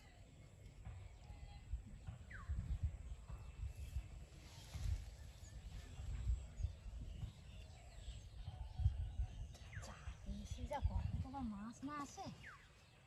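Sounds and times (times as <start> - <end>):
bird chirp: 0.0 - 13.0
wind buffeting microphone: 0.7 - 12.3.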